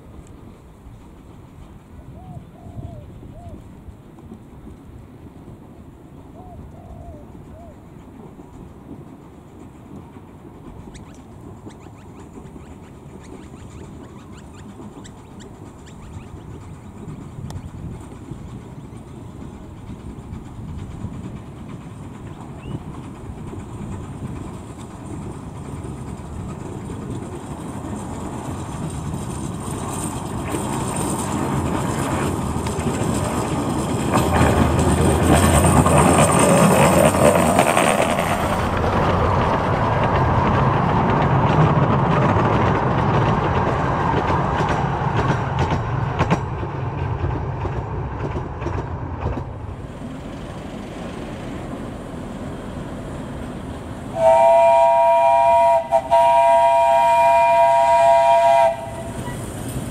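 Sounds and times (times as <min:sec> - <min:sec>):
steam train wheels clattering: 0:00.0 - 0:02.7, 0:07.2 - 0:59.9.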